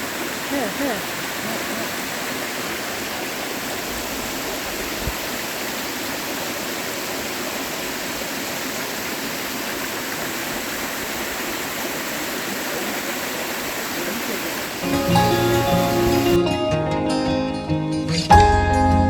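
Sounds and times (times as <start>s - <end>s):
stream water flowing: 0.0s - 16.4s.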